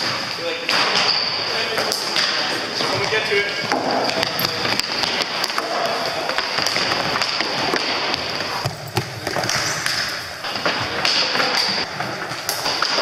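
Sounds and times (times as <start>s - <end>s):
hockey sticks clacking: 0.0s - 13.0s.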